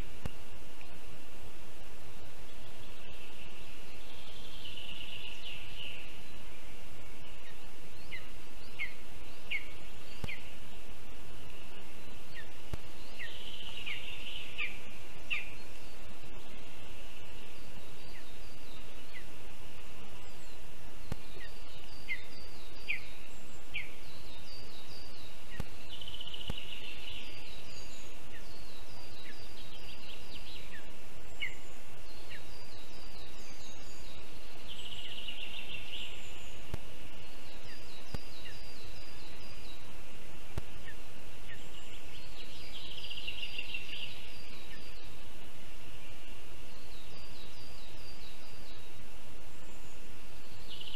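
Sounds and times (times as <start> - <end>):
faint high whine: 0.0 - 50.9
songbirds singing: 0.0 - 50.9
steady hiss: 0.0 - 50.9.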